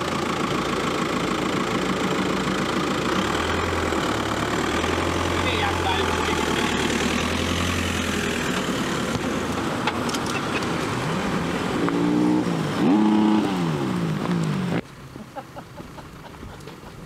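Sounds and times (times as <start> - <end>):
engine revving: 0.0 - 14.8
car engine and tyre noise: 0.0 - 17.0.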